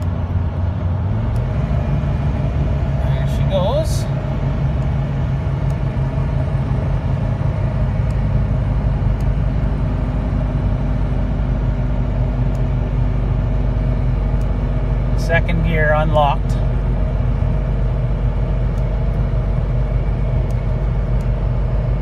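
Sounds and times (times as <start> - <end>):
engine droning under load: 0.0 - 22.0.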